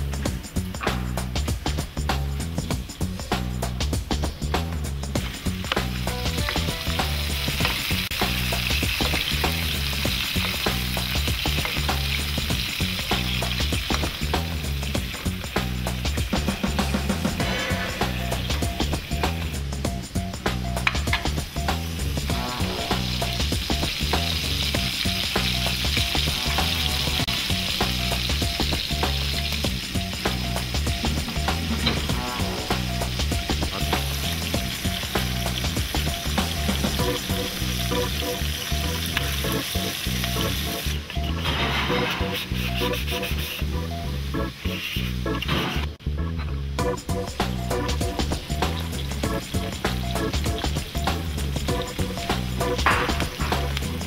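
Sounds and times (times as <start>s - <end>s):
fish sizzling in hot oil: 0.0s - 45.8s, 46.8s - 54.0s.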